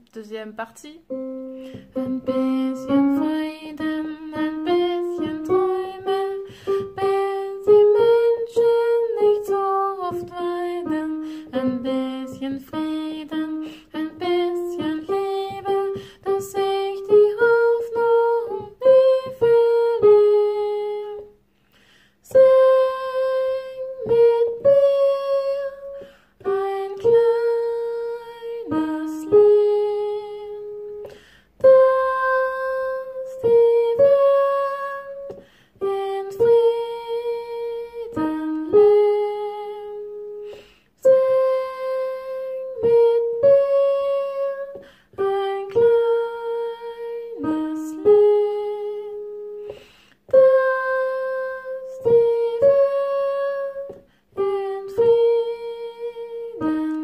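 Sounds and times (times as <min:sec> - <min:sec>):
single melody line: 0:01.0 - 0:21.3, 0:22.3 - 0:49.7, 0:50.3 - 0:57.0.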